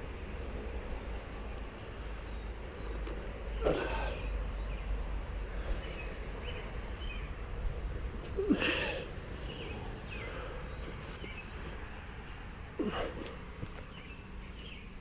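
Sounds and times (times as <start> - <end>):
birds chirping faintly: 0.0 - 15.0
low outdoor rumble: 0.0 - 15.0.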